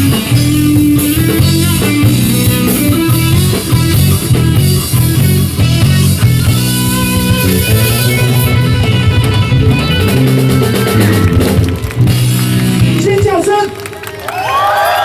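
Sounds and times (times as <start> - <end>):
rock band playing loudly: 0.0 - 14.2.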